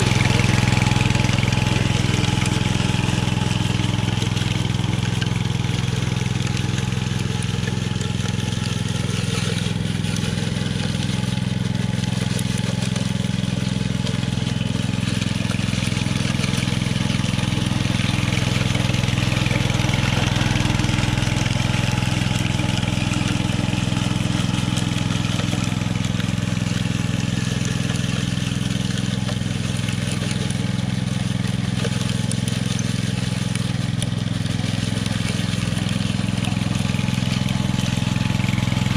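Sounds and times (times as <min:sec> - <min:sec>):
power trowel engine running: 0:00.0 - 0:38.9.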